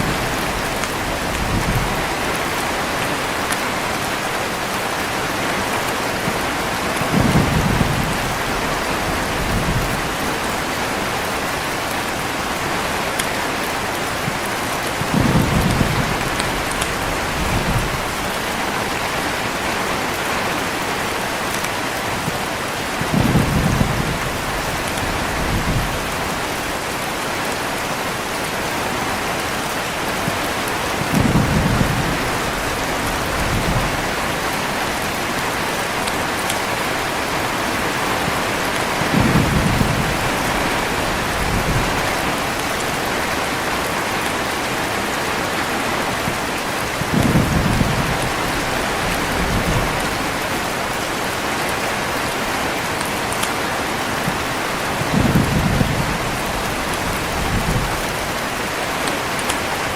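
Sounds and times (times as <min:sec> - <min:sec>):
thunder rumbling: 0:00.0 - 0:20.4, 0:22.1 - 0:27.4, 0:28.6 - 0:45.2, 0:46.0 - 0:53.1, 0:54.2 - 0:59.9
heavy rain: 0:00.0 - 0:59.9.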